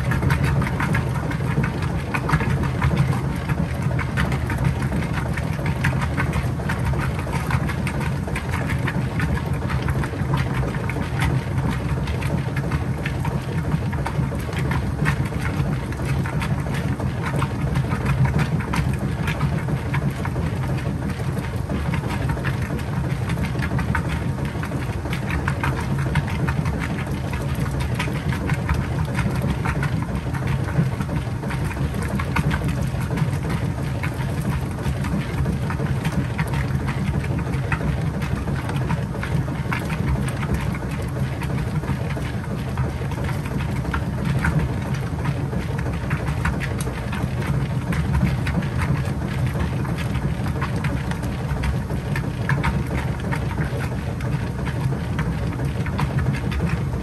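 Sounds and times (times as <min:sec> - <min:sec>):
agitator churning and sloshing: 0:00.0 - 0:57.0
washing machine motor hum: 0:00.0 - 0:57.0.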